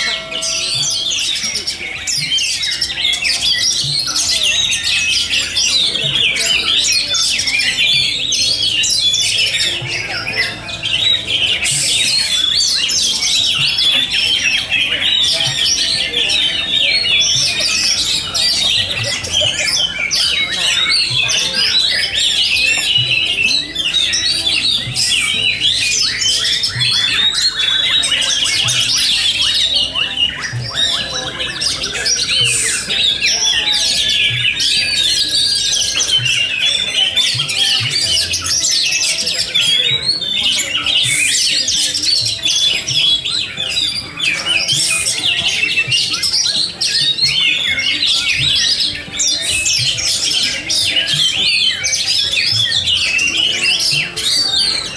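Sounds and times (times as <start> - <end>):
chorus of songbirds singing: 0.0 - 54.9.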